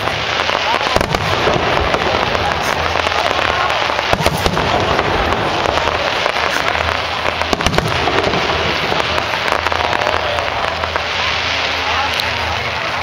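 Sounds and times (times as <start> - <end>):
sharp firework bangs: 0.0 - 11.6
fireworks crackling: 0.0 - 13.0.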